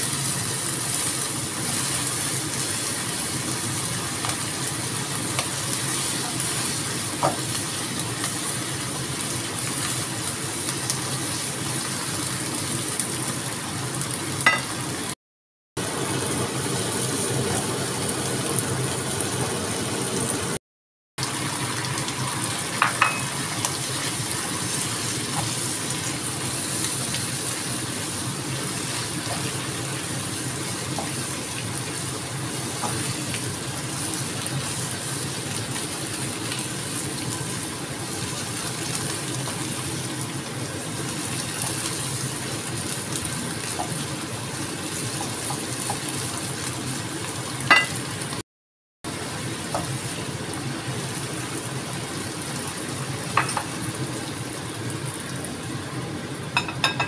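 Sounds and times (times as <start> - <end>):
food sizzling in a pan: 0.0 - 15.2, 15.8 - 20.6, 21.2 - 48.4, 49.1 - 57.0.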